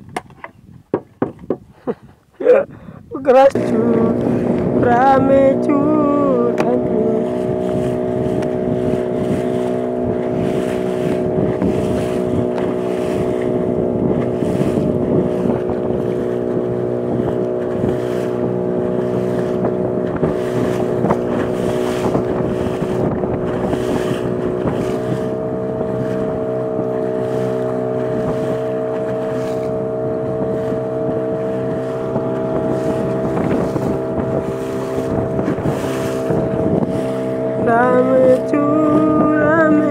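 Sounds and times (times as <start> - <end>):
wind buffeting the microphone: 0.0 - 39.9
boat motor running: 2.4 - 39.9.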